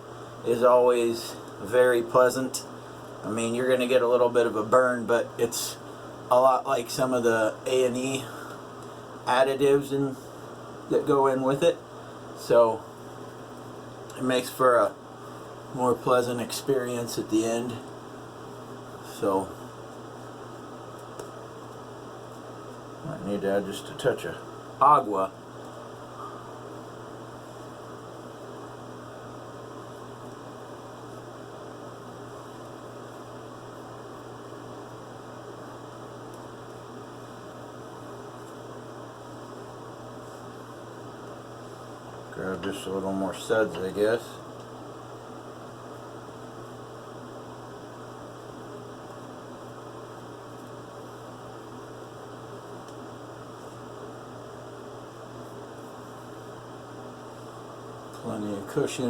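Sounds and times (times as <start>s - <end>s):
steady low hum with hiss: 0.0s - 59.0s.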